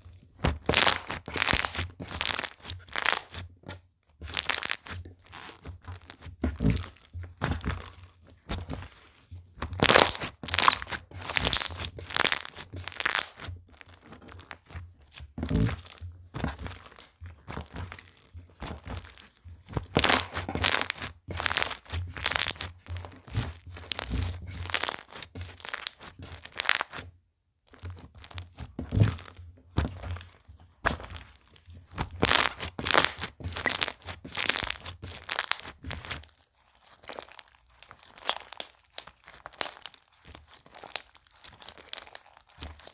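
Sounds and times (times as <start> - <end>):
slime crunching and crackling: 0.4 - 3.5, 4.2 - 27.0, 27.7 - 42.9.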